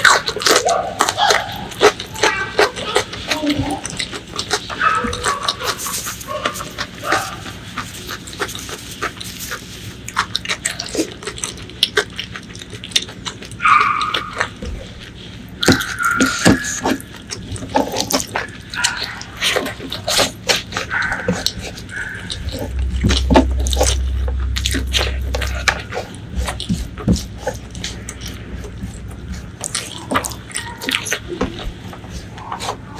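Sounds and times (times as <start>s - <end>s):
wet chewing and lip-smacking: 0.0s - 32.9s.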